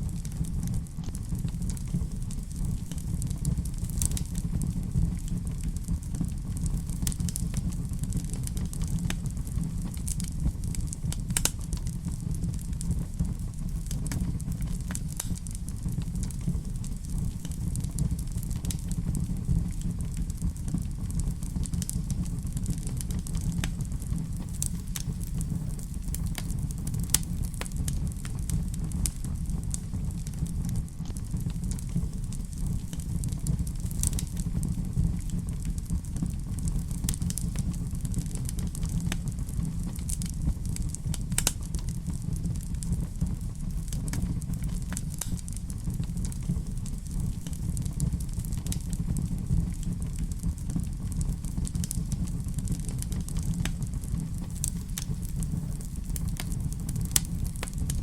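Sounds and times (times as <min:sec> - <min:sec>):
fire crackling and popping: 0:00.0 - 0:58.0
fire rumbling: 0:00.0 - 0:58.0.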